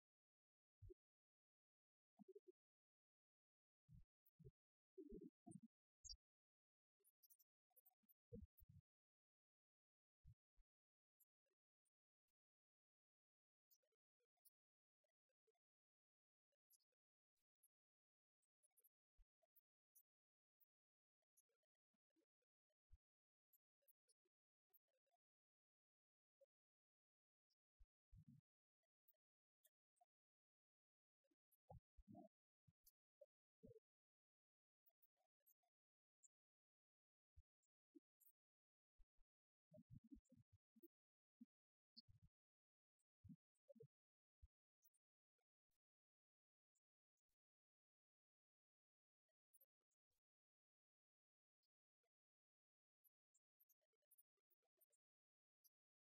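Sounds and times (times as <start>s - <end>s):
faint ticks: 0.0s - 36.7s, 37.3s - 38.4s, 39.7s - 45.9s, 46.6s - 56.0s.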